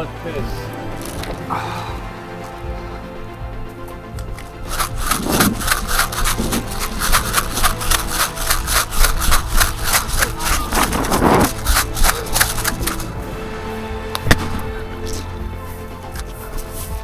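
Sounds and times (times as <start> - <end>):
running footsteps through undergrowth: 0.0 - 17.0.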